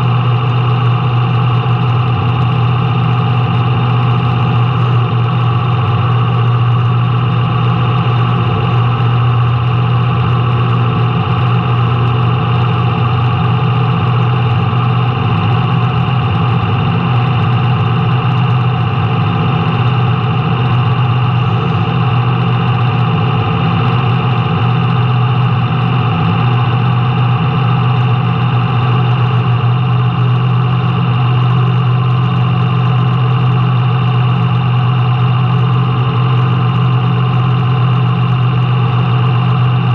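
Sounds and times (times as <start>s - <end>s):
race car engine running steadily: 0.0s - 39.9s.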